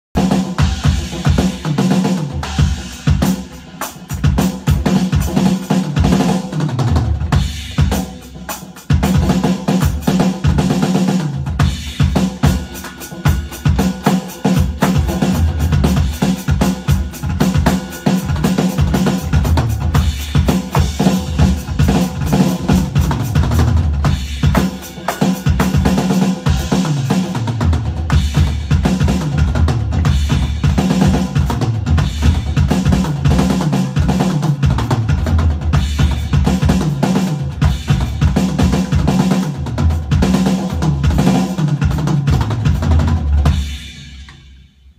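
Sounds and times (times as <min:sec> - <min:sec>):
electronic drum kit playing: 0:00.2 - 0:44.6.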